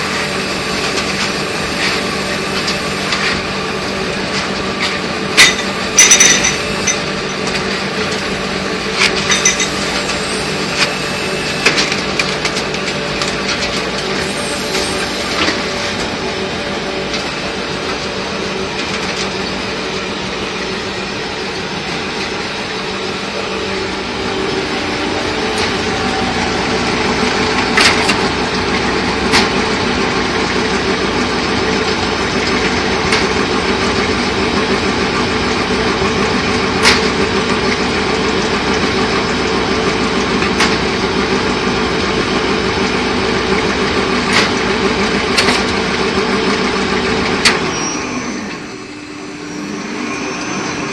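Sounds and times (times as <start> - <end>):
sharp machine clack: 0.0 - 43.0
packaging machine drone: 0.0 - 50.9.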